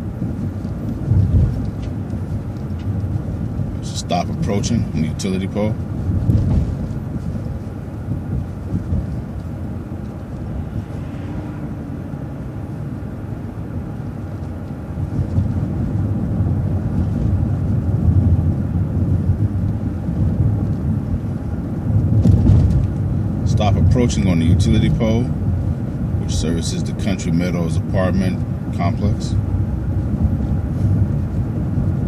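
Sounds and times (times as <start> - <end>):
bus engine and tyre rumble: 0.0 - 32.0.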